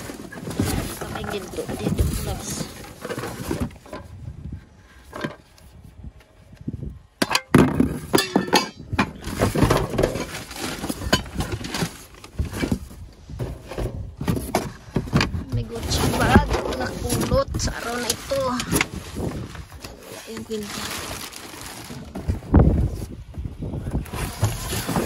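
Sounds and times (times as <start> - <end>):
rummaging cardboard and trash: 0.0 - 5.8, 7.4 - 25.0.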